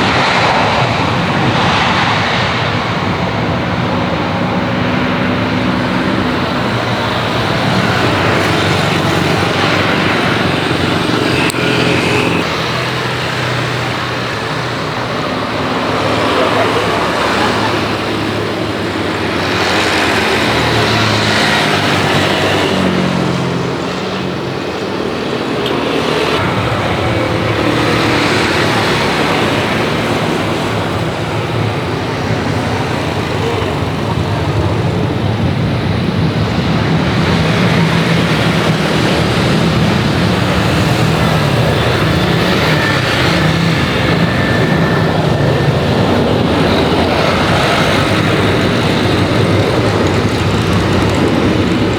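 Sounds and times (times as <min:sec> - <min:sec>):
road traffic noise: 0:00.0 - 0:51.9.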